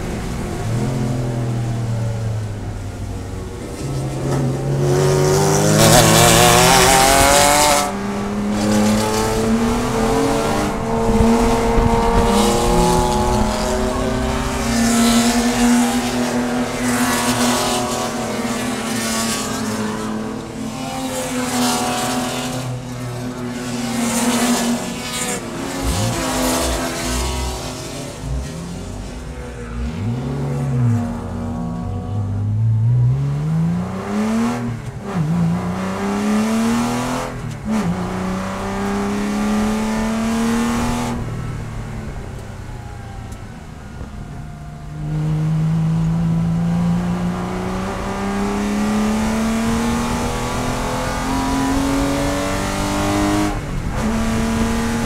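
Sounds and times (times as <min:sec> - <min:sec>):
car passing: 0:00.0 - 0:55.0
race car engine revving: 0:00.0 - 0:55.0.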